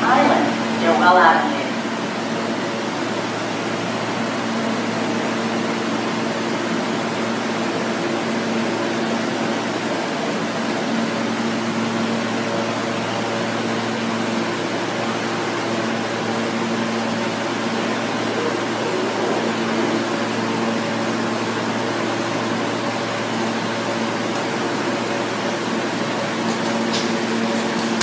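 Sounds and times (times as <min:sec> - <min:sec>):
air-conditioning whir: 0:00.0 - 0:28.0.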